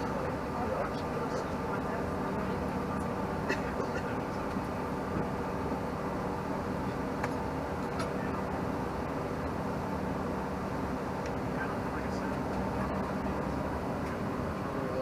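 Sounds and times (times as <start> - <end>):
airplane cabin engine rush: 0.0 - 15.0.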